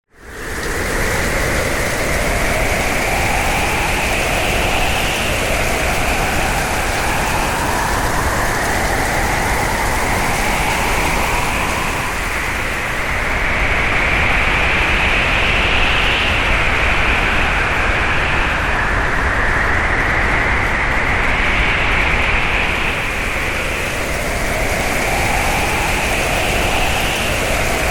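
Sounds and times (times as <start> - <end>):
howling hurricane wind: 0.1 - 27.9.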